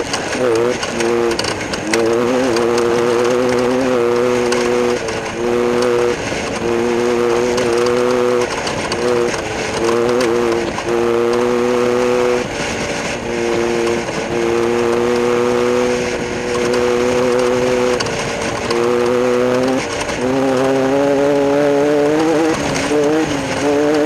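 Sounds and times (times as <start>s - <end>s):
race engine running: 0.0s - 24.0s.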